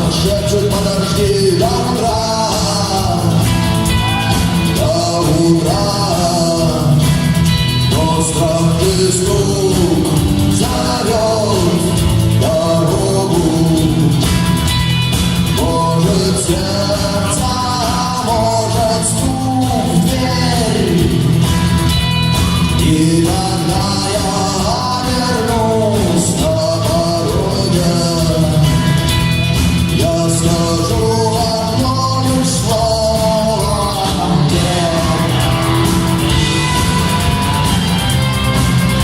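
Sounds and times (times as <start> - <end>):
bending lead guitar melody: 0.0 - 39.0
rock band playing: 0.0 - 39.0
steady bass line: 0.0 - 39.0.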